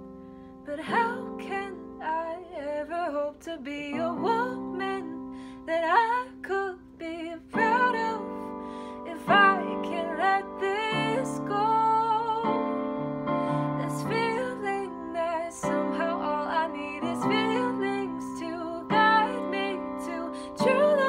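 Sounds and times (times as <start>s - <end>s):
piano chords: 0.0s - 21.0s
woman singing a ballad: 0.0s - 21.0s.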